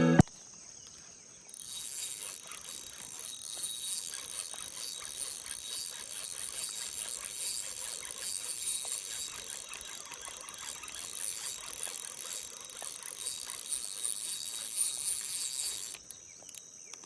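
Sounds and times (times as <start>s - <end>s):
light clicks: 1.6s - 17.0s.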